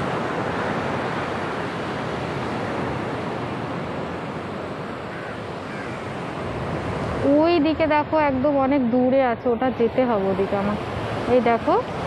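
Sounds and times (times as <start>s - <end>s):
sea waves breaking on a beach: 0.0s - 12.0s.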